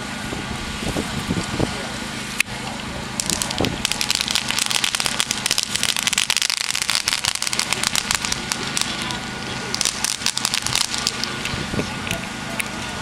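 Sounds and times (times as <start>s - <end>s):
firework fountain crackling: 0.0s - 13.0s
firework fountain hissing: 0.0s - 13.0s.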